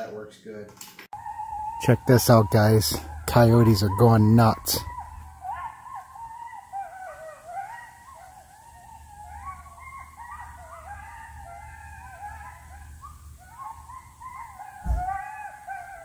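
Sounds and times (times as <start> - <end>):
coyotes howling and yipping: 1.1 - 16.0.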